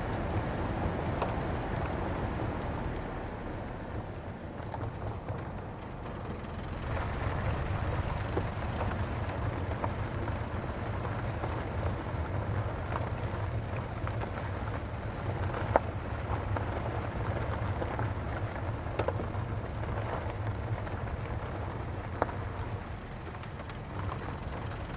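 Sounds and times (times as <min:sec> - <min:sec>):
car tyres rolling on rough road: 0:00.0 - 0:24.9
grit and stones crackling: 0:00.0 - 0:24.9.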